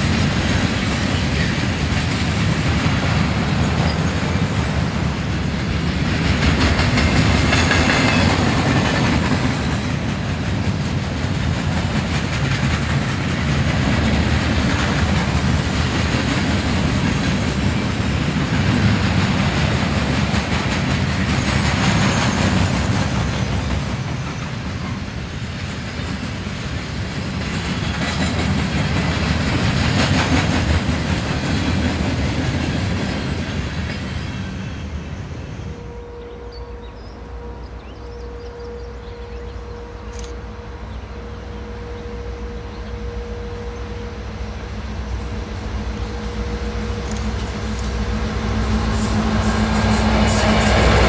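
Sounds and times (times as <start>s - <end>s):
train wheels clicking over rail joints: 0.0s - 34.6s, 44.1s - 51.0s.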